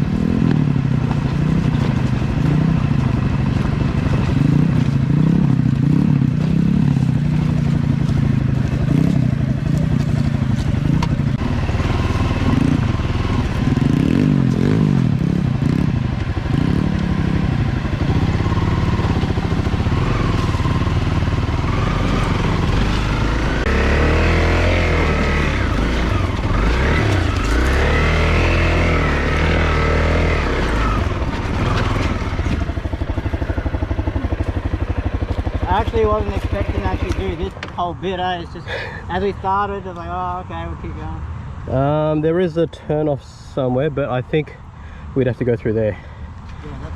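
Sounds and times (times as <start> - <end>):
pit bike engine running: 0.0 - 40.3.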